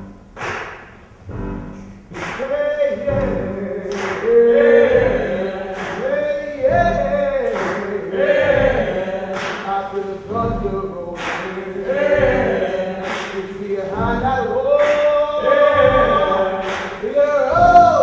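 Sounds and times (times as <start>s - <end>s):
sharp percussive hits: 0.0s - 18.0s
male chorus singing work song: 2.1s - 18.0s.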